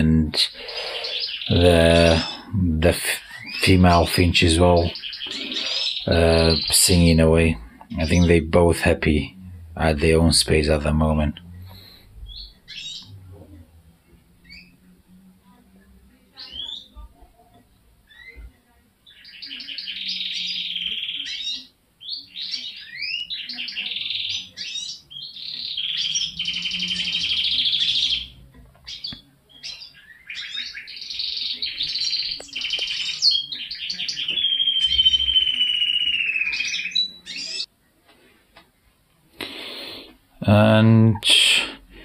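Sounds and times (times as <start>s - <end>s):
canary singing trills: 0.4s - 15.7s, 16.3s - 37.7s.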